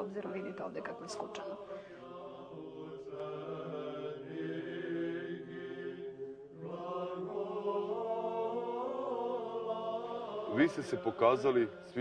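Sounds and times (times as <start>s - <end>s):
voices chanting long notes: 0.0s - 12.0s.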